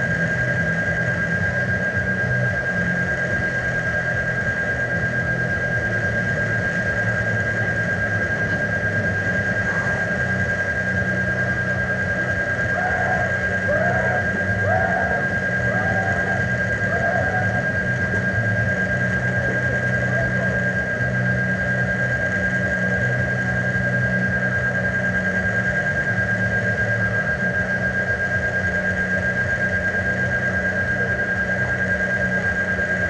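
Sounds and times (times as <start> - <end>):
mechanical hum with high-pitched whine: 0.0 - 33.0.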